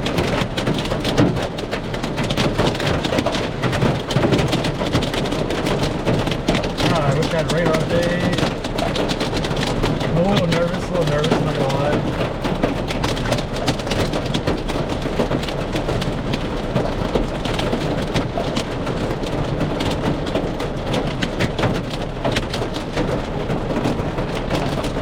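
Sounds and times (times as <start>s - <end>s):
hailstones knocking: 0.0s - 25.0s
heavy rain on vehicle: 0.0s - 25.0s.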